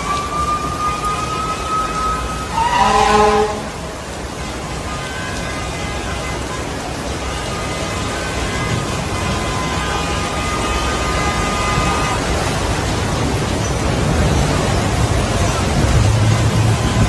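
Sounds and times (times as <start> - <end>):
heavy rain: 0.0 - 17.0
rushing floodwater: 0.0 - 17.0.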